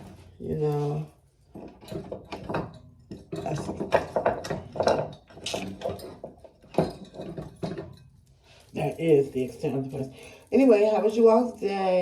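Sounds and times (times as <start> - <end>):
objects being handled: 0.0 - 11.0.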